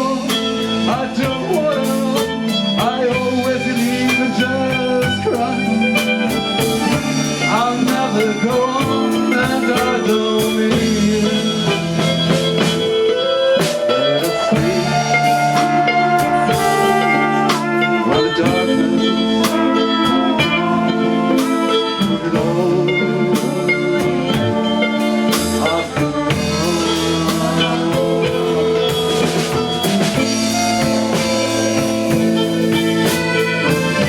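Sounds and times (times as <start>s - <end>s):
drum kit beat: 0.0s - 34.0s
rock guitar sustained notes: 0.0s - 34.0s.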